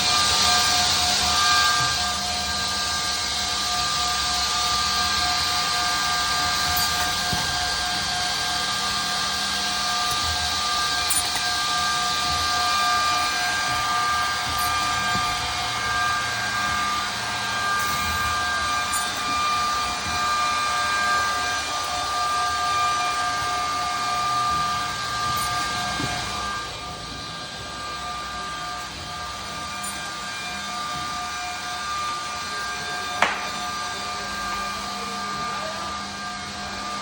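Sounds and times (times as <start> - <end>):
edge banding machine whining: 0.0 - 37.0.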